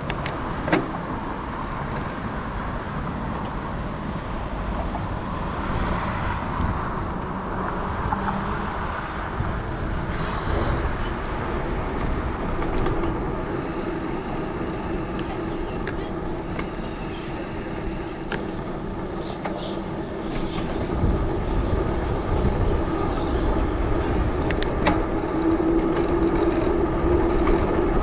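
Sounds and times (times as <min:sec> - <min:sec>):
bicycle tires rolling: 0:00.0 - 0:28.0.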